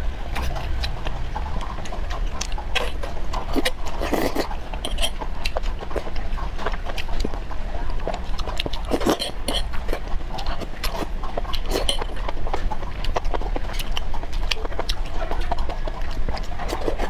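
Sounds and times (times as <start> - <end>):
wet slurping and chewing: 0.3 - 17.0.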